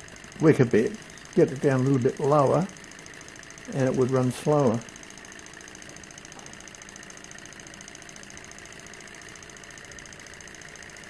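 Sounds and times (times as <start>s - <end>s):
stirling engine whirring: 0.0s - 11.0s.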